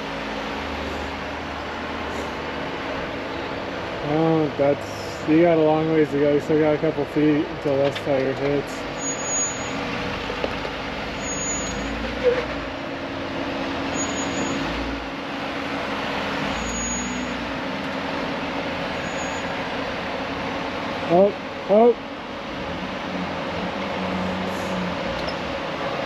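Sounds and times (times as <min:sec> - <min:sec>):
car engine under load: 0:00.0 - 0:26.0.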